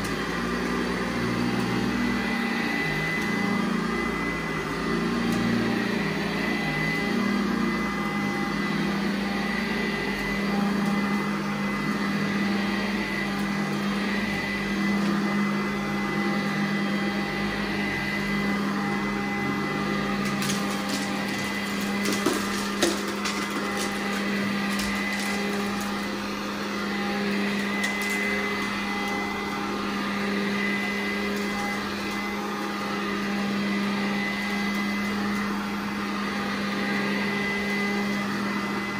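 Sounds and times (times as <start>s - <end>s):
carpet cleaning machine whine: 0.0s - 38.9s.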